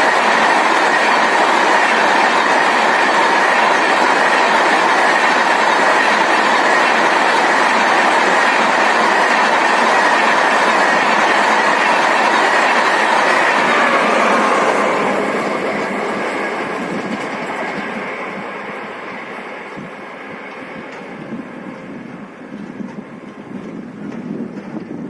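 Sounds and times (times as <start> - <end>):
train wheels rushing on rails: 0.0 - 25.0.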